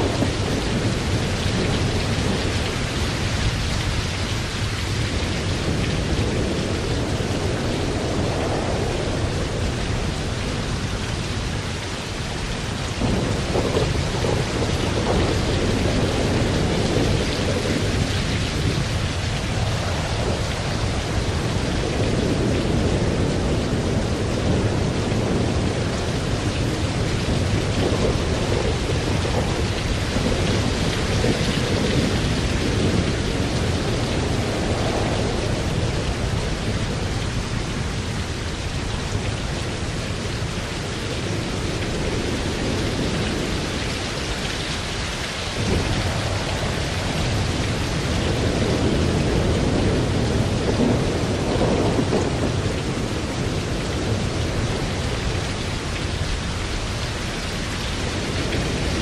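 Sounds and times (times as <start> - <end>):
heavy rain: 0.0 - 59.0
thunder rolling: 0.0 - 59.0.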